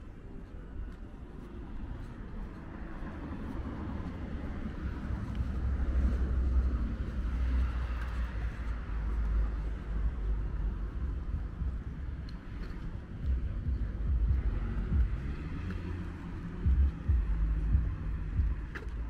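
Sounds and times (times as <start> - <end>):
low traffic rumble: 0.0 - 19.0
car passing: 0.7 - 19.0.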